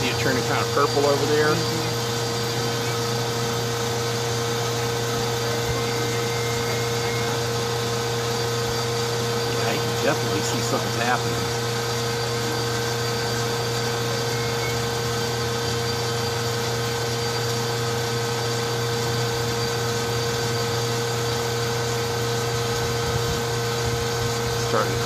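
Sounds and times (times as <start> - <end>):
propane filling pump humming: 0.0 - 25.0.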